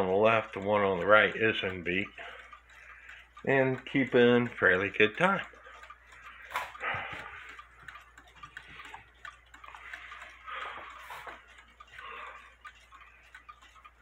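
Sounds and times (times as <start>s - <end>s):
clocks ticking: 0.0s - 14.0s.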